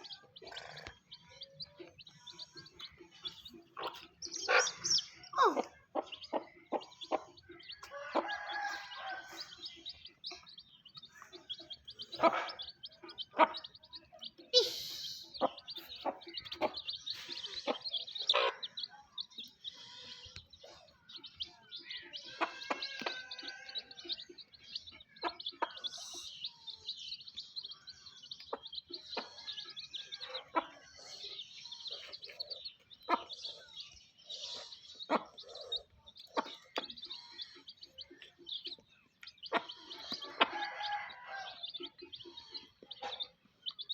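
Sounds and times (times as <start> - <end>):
chicks peeping: 0.0 - 43.9
hen clucking: 0.0 - 43.9.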